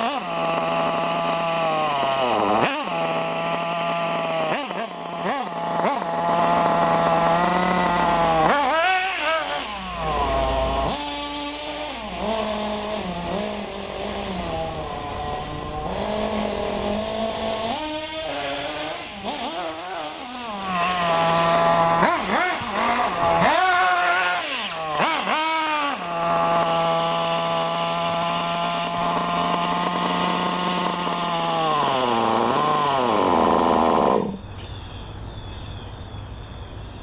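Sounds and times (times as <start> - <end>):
rc car engine revving: 0.0 - 35.3.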